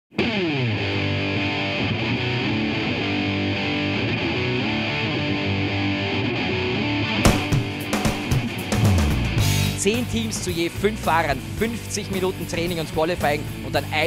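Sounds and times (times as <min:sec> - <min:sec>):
guitar rock music: 0:00.1 - 0:14.0.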